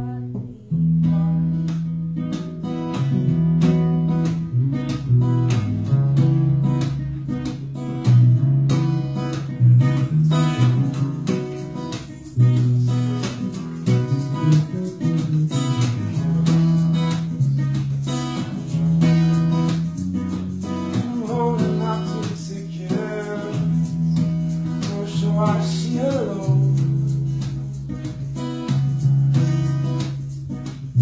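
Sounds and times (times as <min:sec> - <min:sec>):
strummed guitar: 0:00.0 - 0:31.0
bass line: 0:03.0 - 0:31.0.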